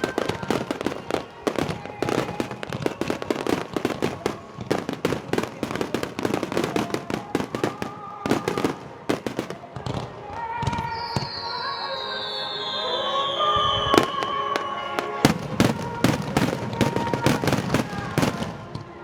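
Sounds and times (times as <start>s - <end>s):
fireworks bangs and crackles: 0.0s - 11.8s, 12.6s - 19.0s.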